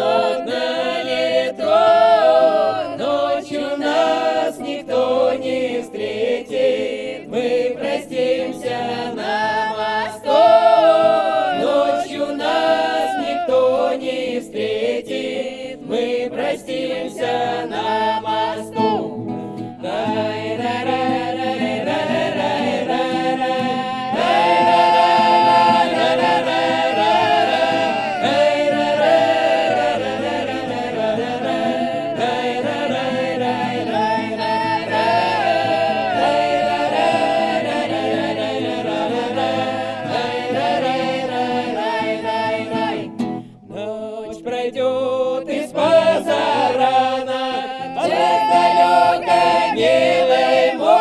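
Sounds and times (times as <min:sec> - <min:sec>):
voices singing a cappella: 0:00.0 - 0:51.0.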